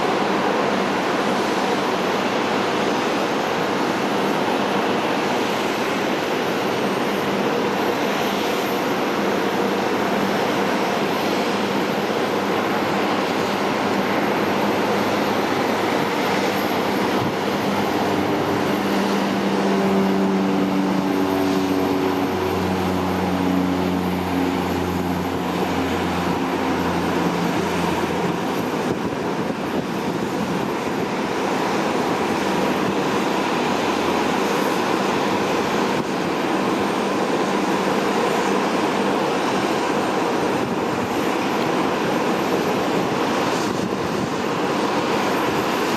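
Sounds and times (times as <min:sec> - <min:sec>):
turboprop engine rush: 0:00.0 - 0:45.9
propeller tones falling in pitch: 0:00.1 - 0:45.9.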